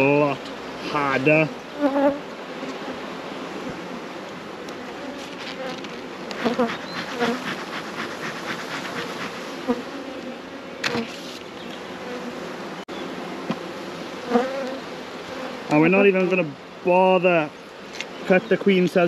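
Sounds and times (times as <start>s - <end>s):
honeybee colony buzzing: 0.0s - 19.0s.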